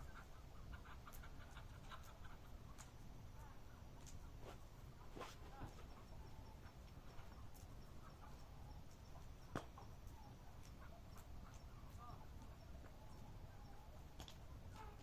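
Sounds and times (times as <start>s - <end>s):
faint campfire crackling: 0.0s - 15.0s.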